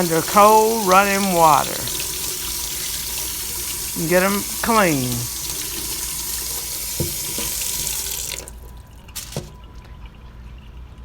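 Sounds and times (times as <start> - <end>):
tap water running into sink: 0.0 - 10.1.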